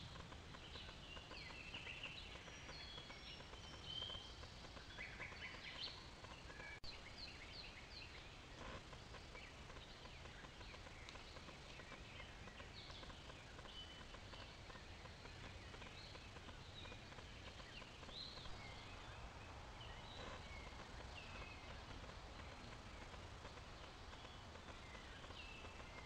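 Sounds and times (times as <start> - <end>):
birds chirping: 0.0 - 26.0
low background hiss: 0.0 - 26.0.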